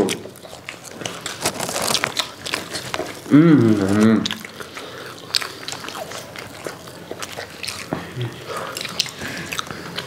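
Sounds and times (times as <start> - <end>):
people chewing fried chicken: 0.0 - 10.0.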